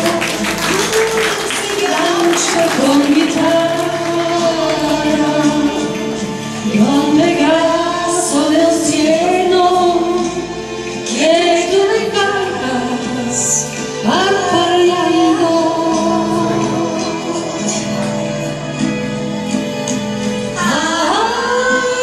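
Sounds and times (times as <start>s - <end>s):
woman singing slowly: 0.0s - 10.4s, 11.1s - 17.9s, 20.6s - 22.0s
instrumental accompaniment: 0.0s - 22.0s.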